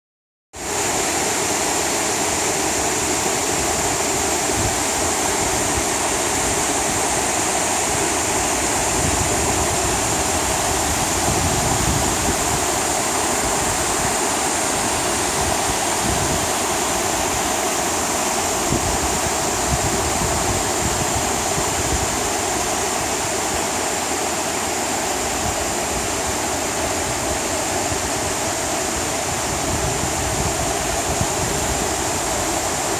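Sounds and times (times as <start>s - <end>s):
waterfall rushing: 0.6s - 32.9s.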